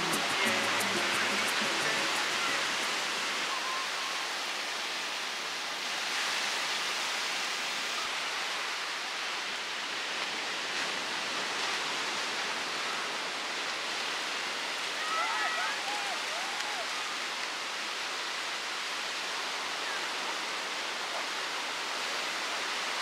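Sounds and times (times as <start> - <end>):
ocean surf breaking: 0.0 - 23.0.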